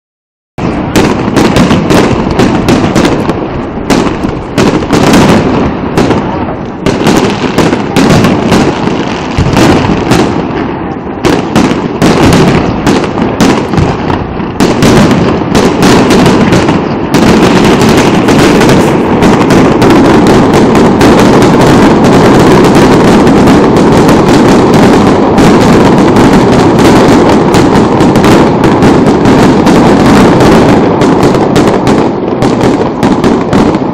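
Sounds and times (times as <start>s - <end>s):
fireworks bursting: 0.6s - 33.9s.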